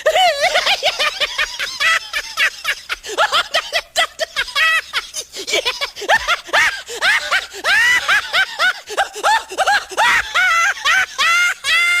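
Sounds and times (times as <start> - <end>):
high-pitched squeaky giggling: 0.0 - 10.3.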